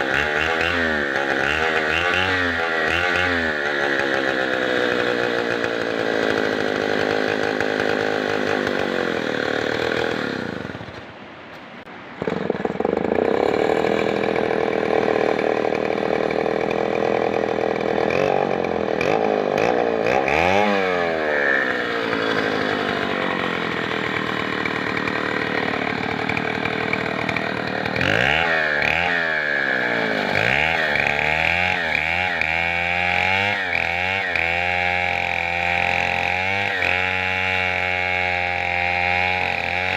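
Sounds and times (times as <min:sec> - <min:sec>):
chainsaw engine revving: 0:00.0 - 0:11.1, 0:12.2 - 0:39.9.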